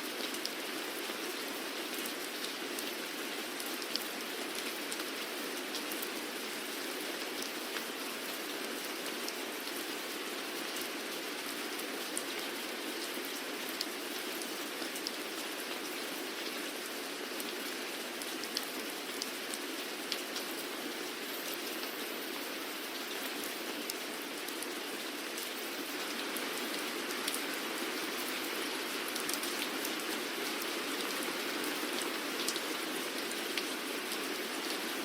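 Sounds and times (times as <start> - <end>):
steady rain falling: 0.0 - 35.0
raindrops ticking on a surface: 0.1 - 35.0.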